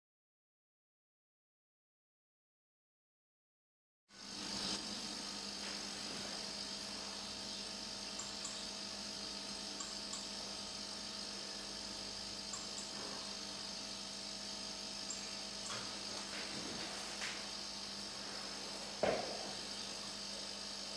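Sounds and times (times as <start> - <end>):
steady electrical hum: 4.1 - 20.9.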